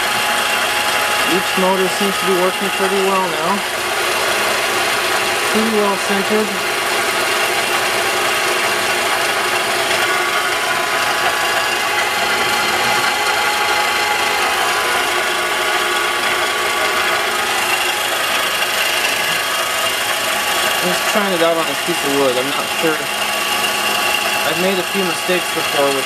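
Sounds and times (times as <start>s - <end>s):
milling machine cutting wood: 0.0s - 26.0s.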